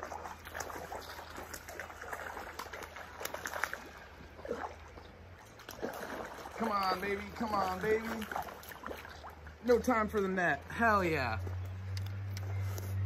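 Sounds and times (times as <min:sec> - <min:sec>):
creek water trickling: 0:00.0 - 0:13.0
small water splashes: 0:00.0 - 0:13.0.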